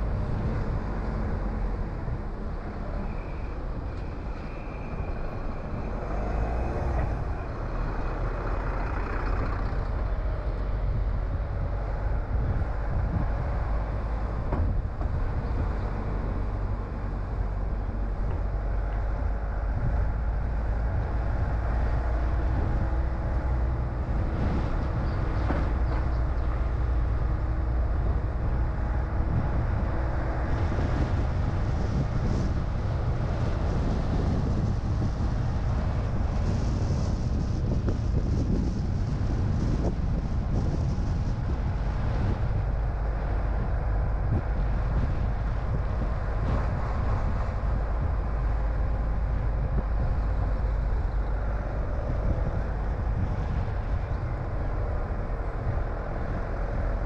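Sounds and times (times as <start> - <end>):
car engine rumble: 0.0 - 57.0
tyre road noise: 0.0 - 57.0.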